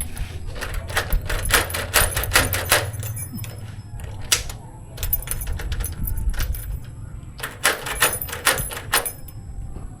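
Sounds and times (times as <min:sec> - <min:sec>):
doorknob clicking and knocking: 0:00.0 - 0:09.4.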